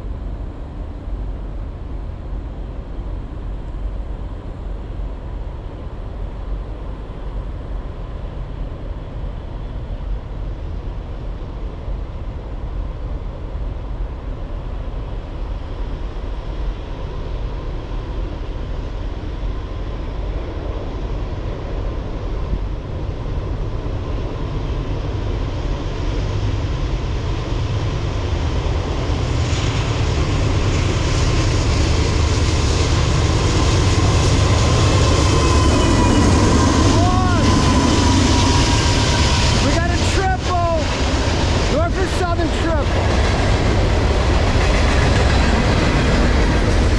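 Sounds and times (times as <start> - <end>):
freight train low rumble: 0.0 - 46.9.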